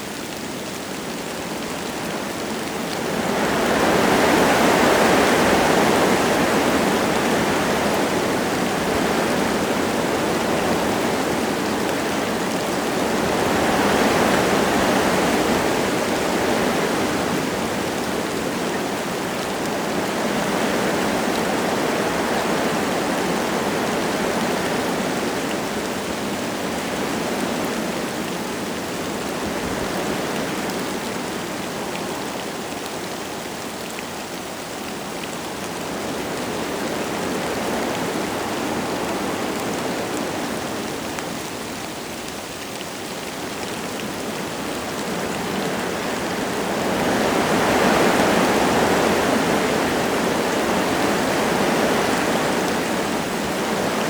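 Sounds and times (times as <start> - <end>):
light rain falling: 0.0 - 54.0
wind through trees: 0.0 - 54.0.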